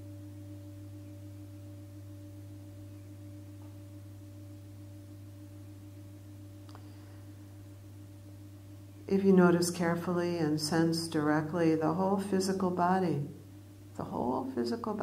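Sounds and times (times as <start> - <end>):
steady low hum with held tones: 0.0 - 15.0.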